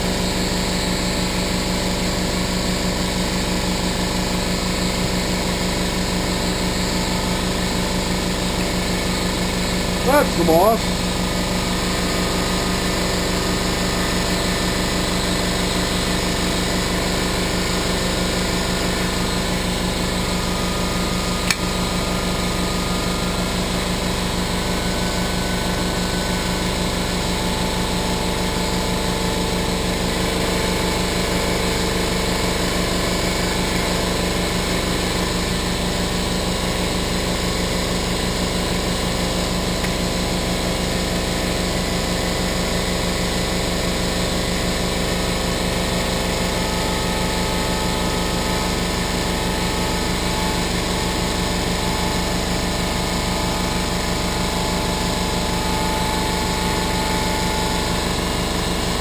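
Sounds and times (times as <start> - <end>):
air compressor running: 10.9 - 59.0.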